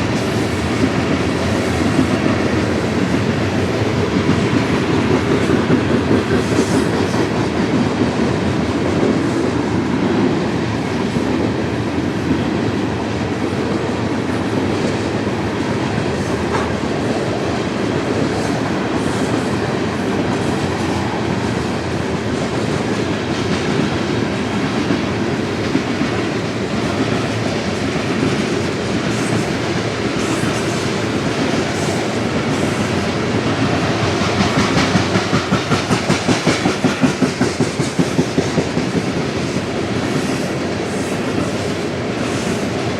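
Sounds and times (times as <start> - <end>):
train wheels rumbling on rail: 0.0 - 42.9
wheels clickety-clack over rail joints: 0.0 - 42.9.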